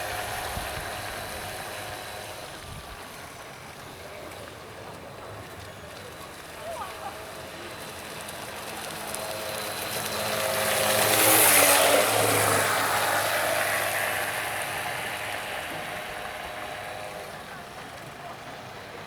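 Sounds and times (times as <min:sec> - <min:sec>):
model boat electric motor whine: 0:00.0 - 0:19.0.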